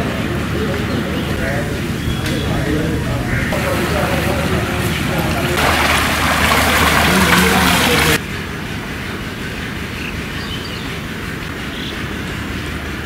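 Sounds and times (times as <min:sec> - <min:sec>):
street background noise: 0:00.0 - 0:13.0
street noise rush with low hum: 0:00.0 - 0:13.0.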